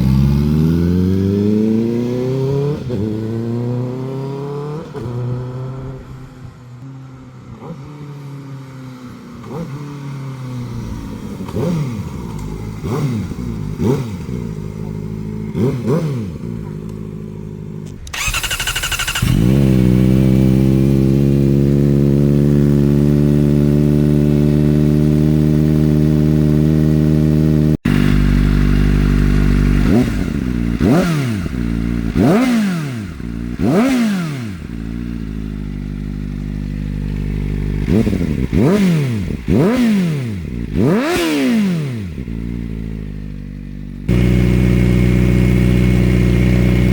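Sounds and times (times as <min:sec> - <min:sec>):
motorcycle engine idling and revving: 0:00.0 - 0:46.9.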